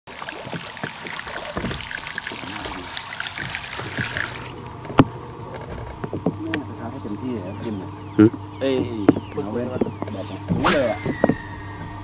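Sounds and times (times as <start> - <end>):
water lapping against boat hull: 0.1 - 12.0.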